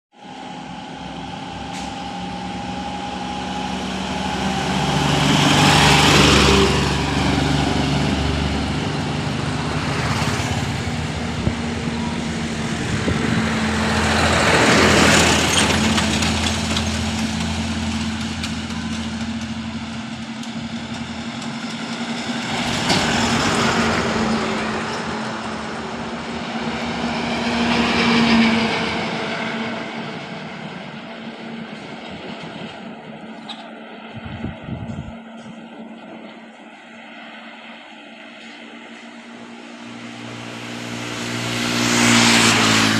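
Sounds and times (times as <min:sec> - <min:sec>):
heavy trucks passing: 0:00.2 - 0:42.9
steady engine drone: 0:00.2 - 0:42.9.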